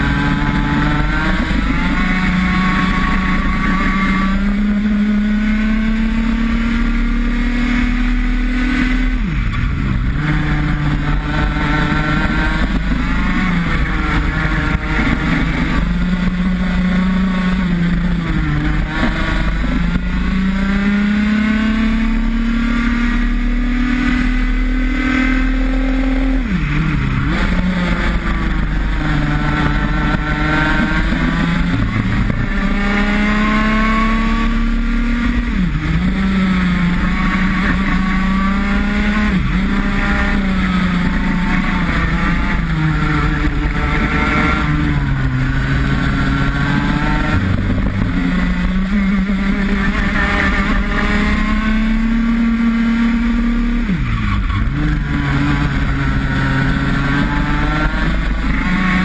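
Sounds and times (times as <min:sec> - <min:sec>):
kart engine at full throttle: 0:00.0 - 0:59.0.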